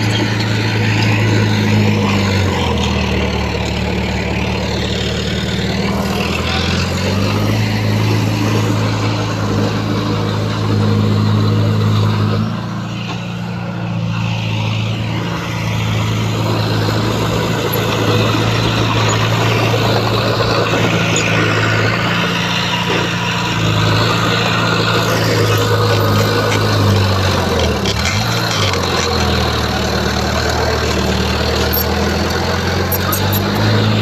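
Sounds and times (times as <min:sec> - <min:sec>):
heavy diesel engine under load: 0:00.0 - 0:34.0.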